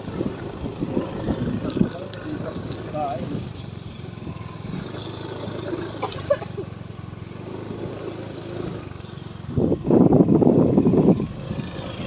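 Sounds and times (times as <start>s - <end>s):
rough rumble: 0.0s - 12.0s
vehicle engine running: 0.0s - 12.0s.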